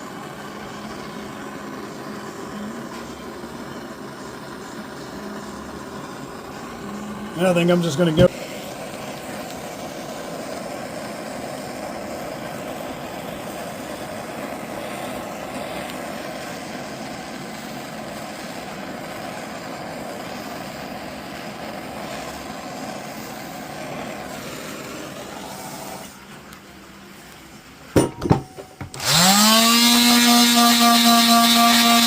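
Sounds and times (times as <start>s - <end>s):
blowtorch flame rushing: 0.0s - 32.0s.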